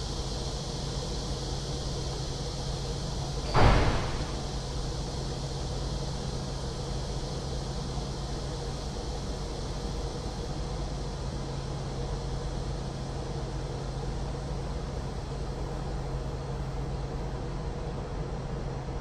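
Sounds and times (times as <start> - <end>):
constant hiss: 0.0 - 18.8
low mechanical hum: 0.0 - 19.0.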